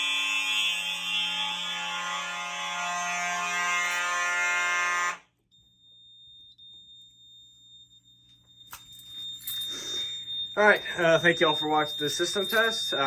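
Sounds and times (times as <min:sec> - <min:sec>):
fire alarm horns sounding: 0:00.0 - 0:13.0.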